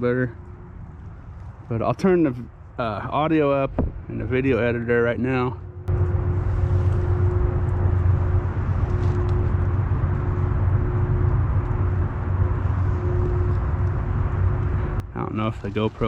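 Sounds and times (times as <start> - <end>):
distant mechanical hum: 0.0 - 16.0.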